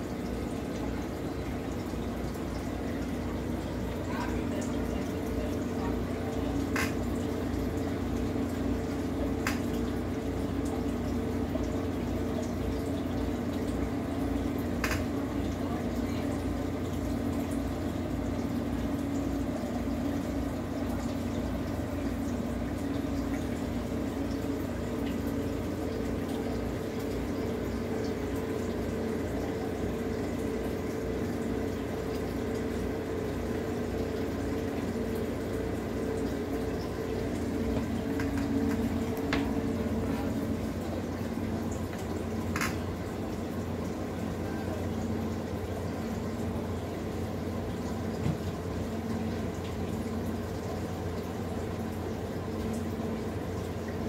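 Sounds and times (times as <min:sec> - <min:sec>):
aquarium water bubbling: 0:00.0 - 0:54.0
tank pump hum: 0:00.0 - 0:54.0.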